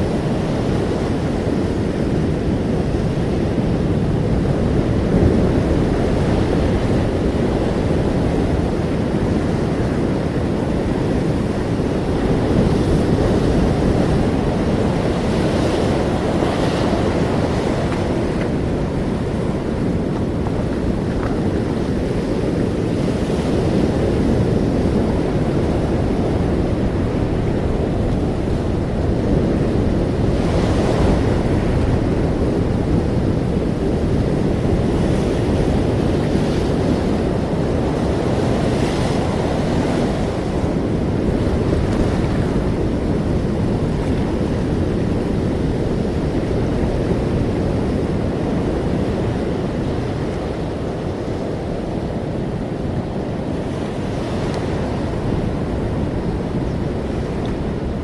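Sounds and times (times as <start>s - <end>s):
ocean surf rumbling: 0.0s - 58.0s
waves breaking: 0.0s - 58.0s.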